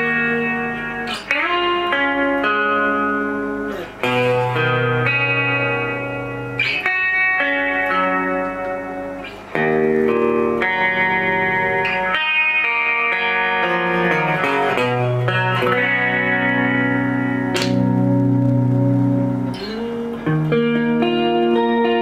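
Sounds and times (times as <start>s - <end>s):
overdriven electric guitar notes: 0.0s - 22.0s.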